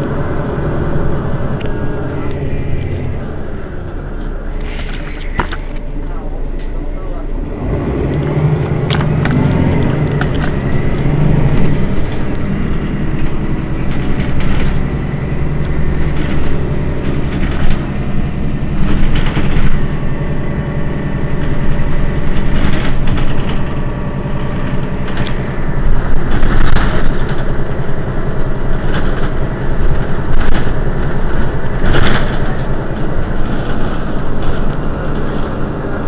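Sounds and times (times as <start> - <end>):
bus diesel engine idling: 0.0 - 36.0.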